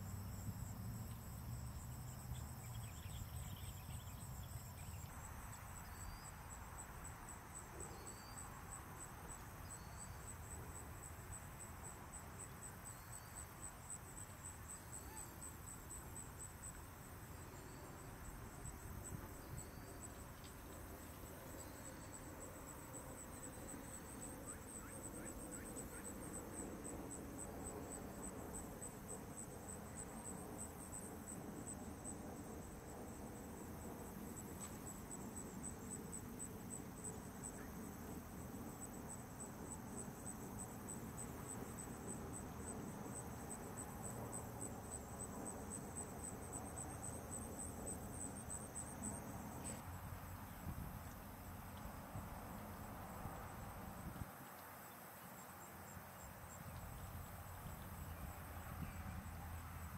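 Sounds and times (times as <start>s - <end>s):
faint low outdoor hum: 0.0s - 59.9s
insect chirping: 0.0s - 59.9s.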